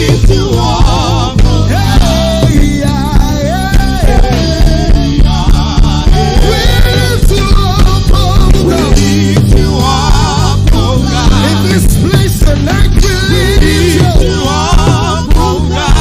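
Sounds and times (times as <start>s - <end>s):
gospel band playing: 0.0s - 16.0s
person singing: 0.0s - 16.0s.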